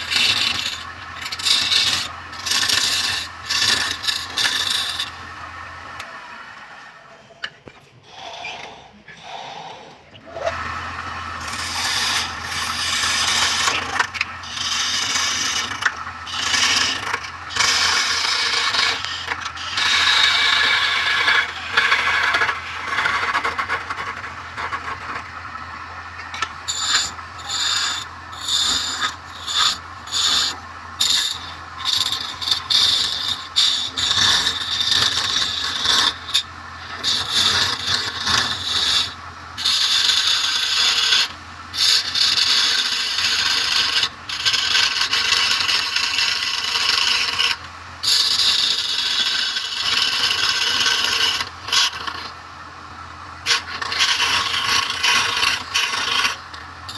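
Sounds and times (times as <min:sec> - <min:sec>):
tool scraping spinning wood: 0:00.0 - 0:06.2, 0:07.4 - 0:56.9
wood lathe motor hum: 0:00.0 - 0:06.9, 0:09.7 - 0:52.4, 0:53.4 - 0:56.9.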